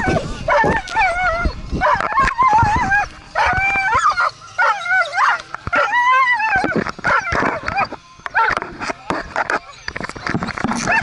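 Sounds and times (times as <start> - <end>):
dogs yelping and howling: 0.0 - 8.7, 10.8 - 11.0.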